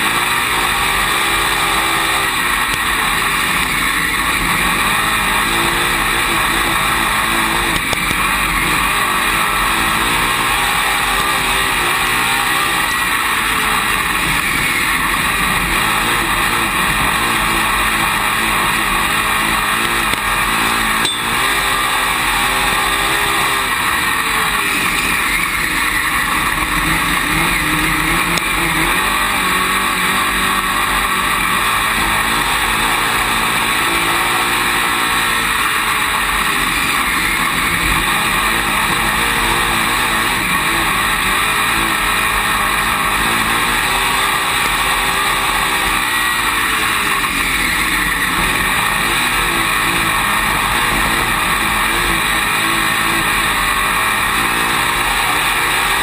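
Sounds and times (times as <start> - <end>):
constant rush of noise: 0.0 - 56.0
race car engine revving: 0.0 - 56.0.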